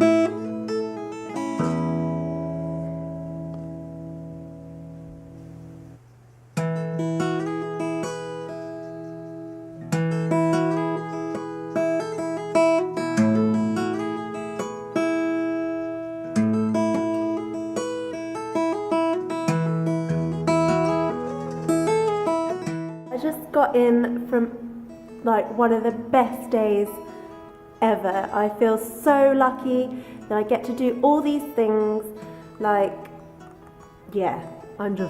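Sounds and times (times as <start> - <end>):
acoustic guitar picking chords: 0.0 - 35.0.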